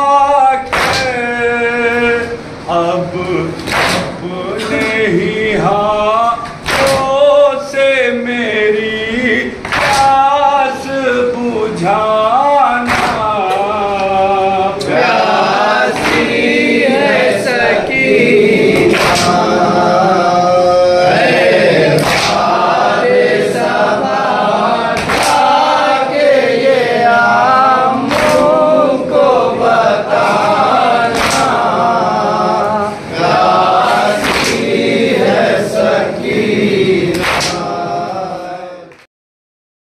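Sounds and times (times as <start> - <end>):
men chanting a lament in chorus: 0.0 - 39.1.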